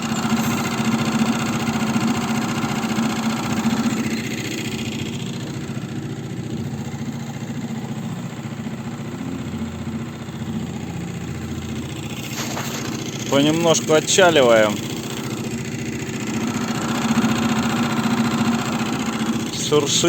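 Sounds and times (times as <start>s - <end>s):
outboard motor idling: 0.0s - 20.0s.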